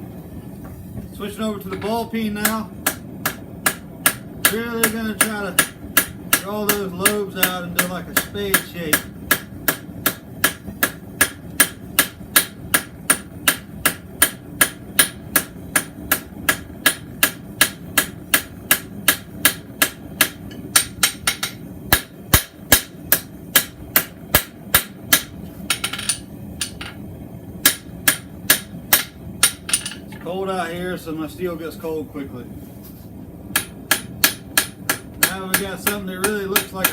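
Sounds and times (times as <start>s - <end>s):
hammer striking steel on anvil: 1.8s - 27.0s, 27.6s - 30.0s, 33.5s - 36.9s.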